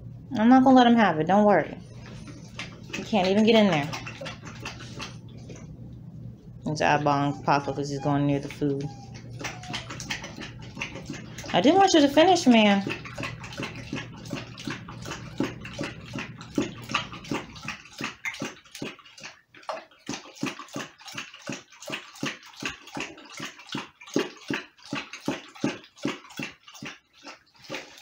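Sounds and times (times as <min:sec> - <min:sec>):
dog licking and slurping meat: 0:01.7 - 0:28.0.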